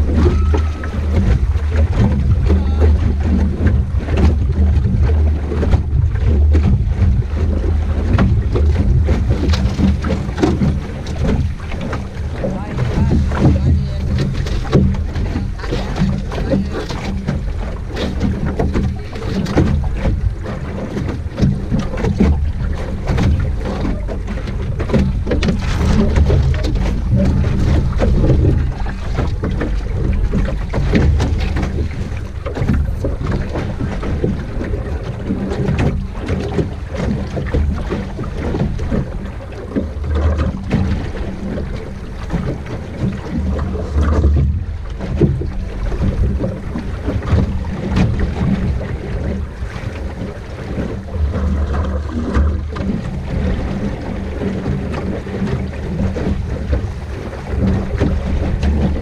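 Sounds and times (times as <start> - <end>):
water slapping against boat hull: 0.0 - 59.0
wind rumbling on microphone: 0.0 - 59.0.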